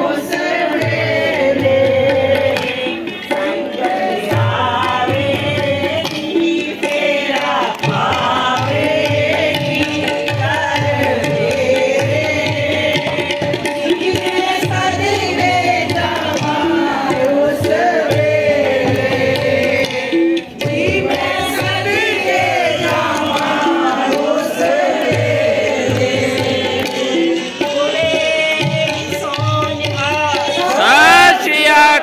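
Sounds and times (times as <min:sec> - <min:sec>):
steady drum beat: 0:00.0 - 0:32.0
women singing together: 0:00.0 - 0:32.0.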